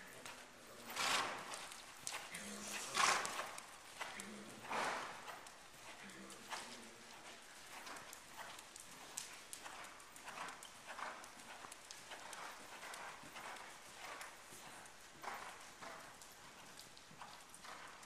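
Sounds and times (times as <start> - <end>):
horse hoofbeats on sand: 0.9 - 18.0.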